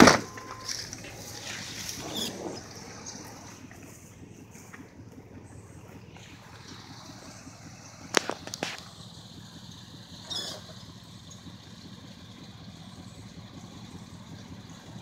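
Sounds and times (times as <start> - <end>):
truck engine running low: 0.0 - 15.0.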